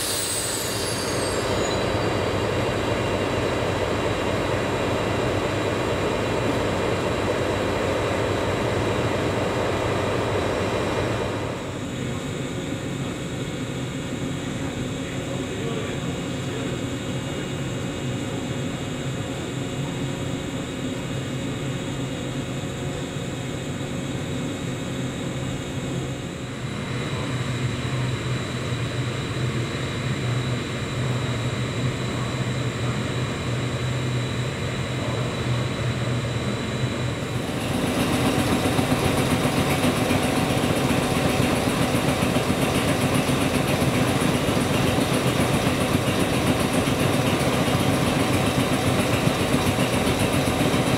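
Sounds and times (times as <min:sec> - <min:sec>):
electric train equipment humming: 0:00.0 - 0:50.9.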